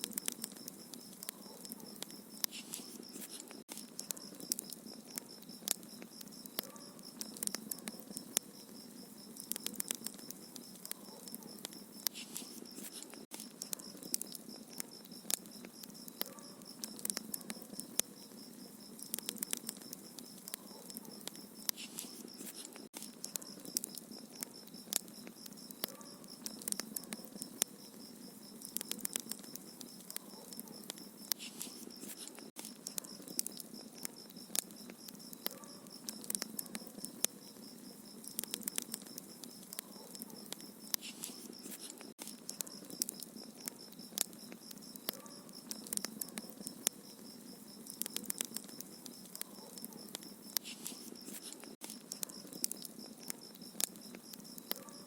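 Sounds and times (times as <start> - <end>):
fire hissing: 0.0 - 39.8, 40.4 - 54.4
wood fire crackling: 0.0 - 54.9.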